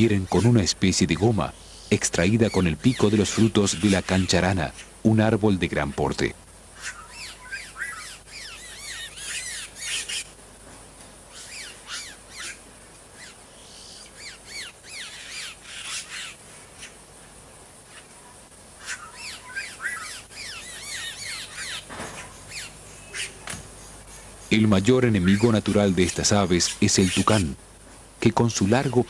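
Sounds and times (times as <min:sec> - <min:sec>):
birds squawking and chattering: 0:00.0 - 0:29.0.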